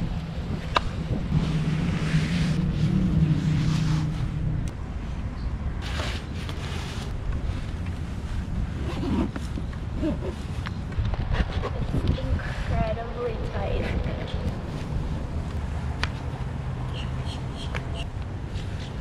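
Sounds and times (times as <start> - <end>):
wind buffeting microphone: 0.0 - 6.4, 7.0 - 19.0
low steady hum: 0.0 - 19.0.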